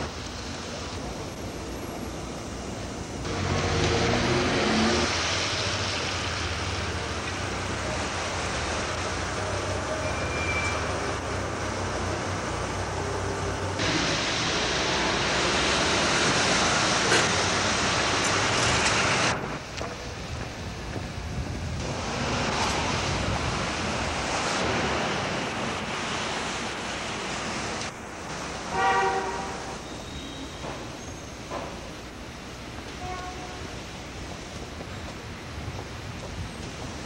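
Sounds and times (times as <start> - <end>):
hissy rush: 0.0 - 10.0, 10.8 - 37.0
street traffic: 0.0 - 37.0.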